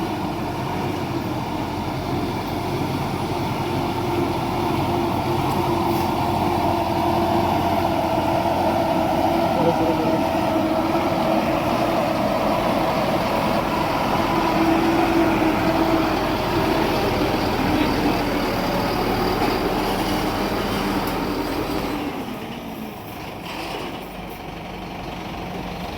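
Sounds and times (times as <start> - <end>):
concrete truck engine drone: 0.0 - 25.9.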